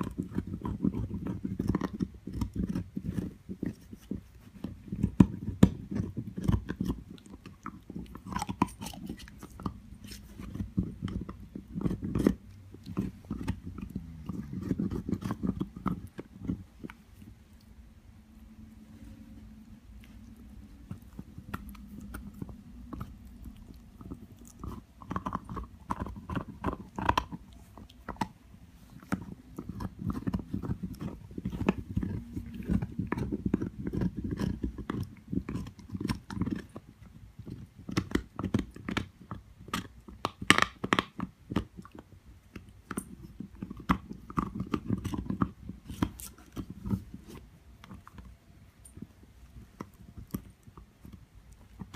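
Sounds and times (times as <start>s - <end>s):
dog gnawing an antler chew: 0.0s - 51.9s.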